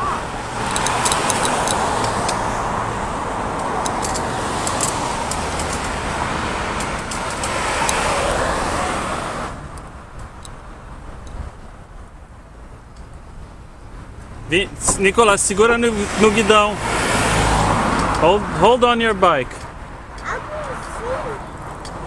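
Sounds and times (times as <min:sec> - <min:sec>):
vehicles passing on road: 0:00.0 - 0:22.0.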